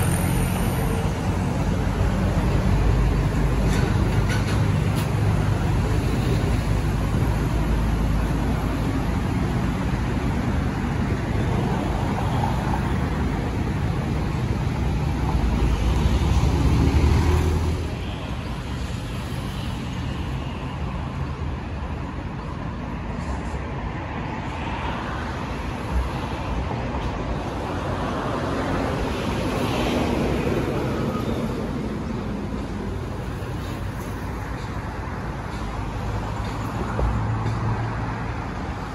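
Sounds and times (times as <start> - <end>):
passing cars rumbling: 0.0 - 38.9.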